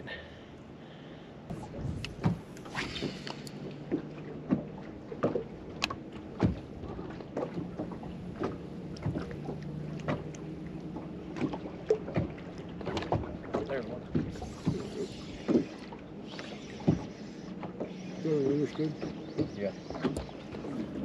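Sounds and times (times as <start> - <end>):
steady low hum: 0.0 - 21.0
waves slapping boat hull: 1.5 - 21.0.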